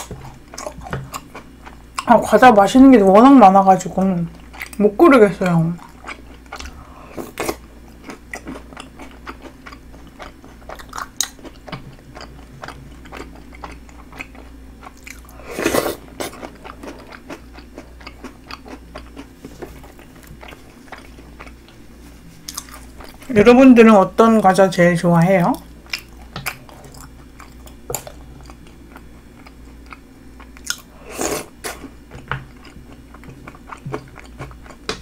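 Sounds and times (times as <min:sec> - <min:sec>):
chewing and crunching: 0:00.0 - 0:02.4, 0:04.0 - 0:23.3, 0:25.6 - 0:35.0.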